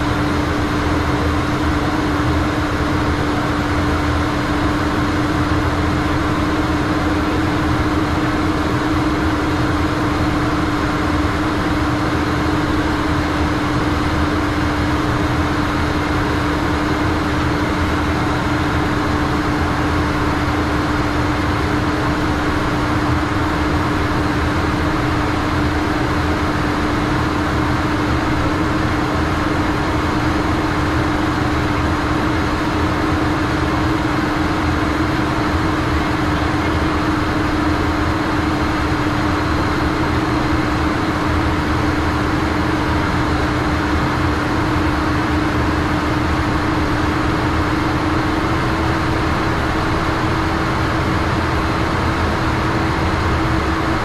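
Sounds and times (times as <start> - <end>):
constant low hum: 0.0 - 54.0
jet engines droning: 0.0 - 54.0.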